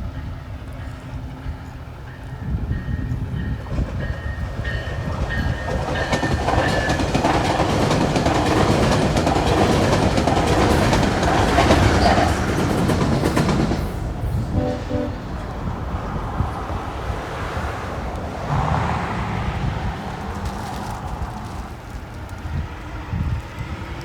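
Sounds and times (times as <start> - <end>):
train passing with rumble: 0.0 - 24.0
train wheels clicking over rails: 1.7 - 24.0.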